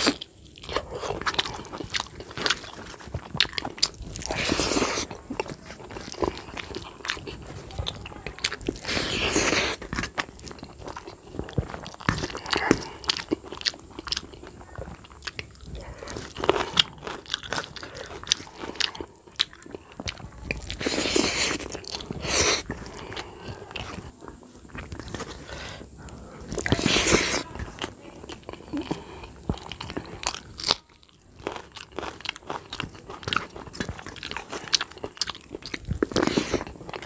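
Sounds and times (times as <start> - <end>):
man chewing and mouth sounds: 0.0 - 37.0.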